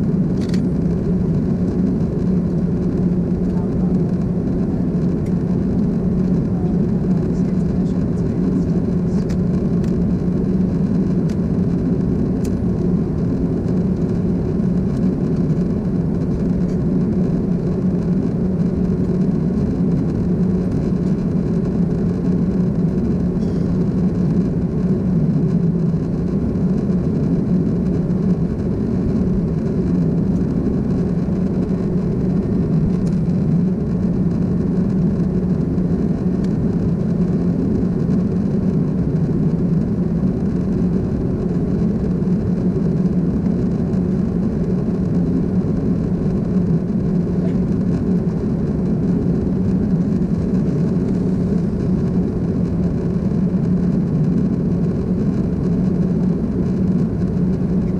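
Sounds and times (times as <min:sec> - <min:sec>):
jet engine drone in cabin: 0:00.0 - 0:57.9.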